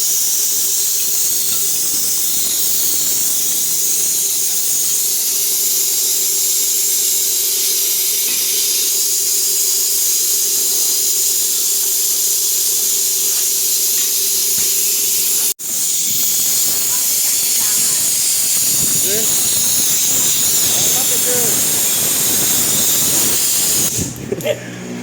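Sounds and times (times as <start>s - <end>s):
steady hiss: 0.0s - 24.2s.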